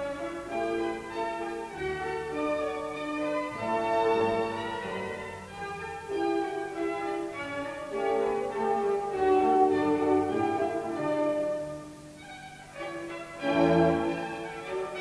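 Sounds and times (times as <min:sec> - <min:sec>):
orchestral strings music: 0:00.0 - 0:15.0.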